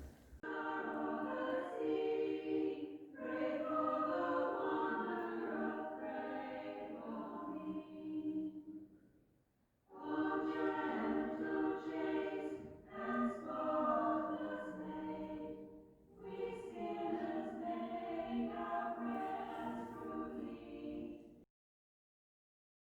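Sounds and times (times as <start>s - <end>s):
choir singing sustained chords: 0.0s - 8.9s, 9.9s - 21.4s.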